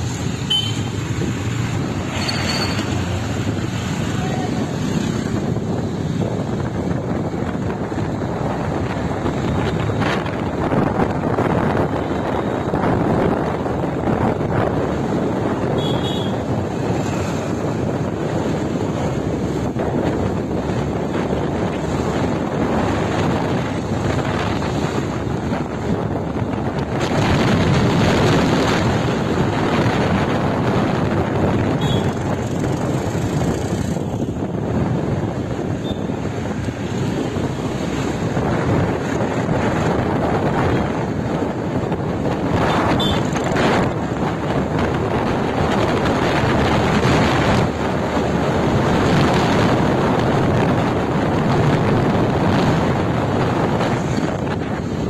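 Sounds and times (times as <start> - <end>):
vehicle road noise: 0.0 - 55.0
wind buffeting microphone: 0.0 - 55.0.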